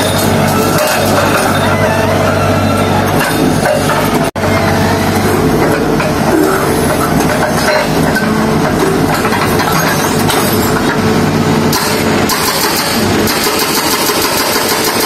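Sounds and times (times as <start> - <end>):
heavy machinery engine running: 0.0 - 15.0.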